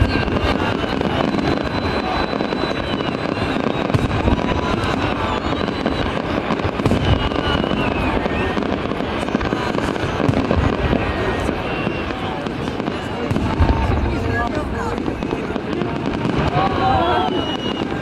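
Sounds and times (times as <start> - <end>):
fireworks booms and crackle: 0.0 - 18.0
fireworks whistling: 0.0 - 18.0.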